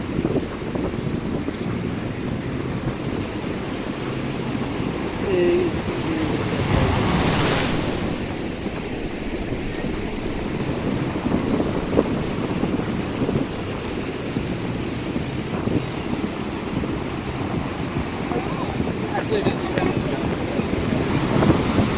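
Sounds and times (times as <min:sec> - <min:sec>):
sea waves washing on shore: 0:00.0 - 0:21.9
wind buffeting microphone: 0:00.0 - 0:21.9.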